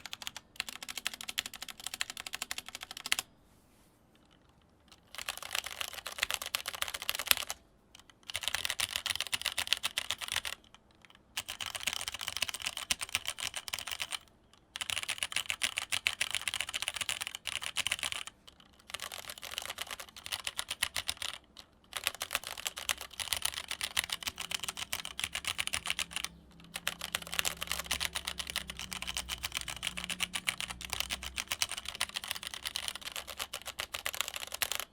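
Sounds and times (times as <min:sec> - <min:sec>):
fast keyboard typing: 0:00.0 - 0:03.3, 0:04.9 - 0:34.9.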